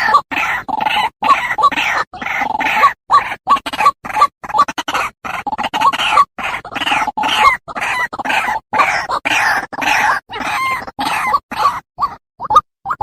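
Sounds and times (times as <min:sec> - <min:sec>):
bird harsh croaking calls: 0:00.0 - 0:13.0.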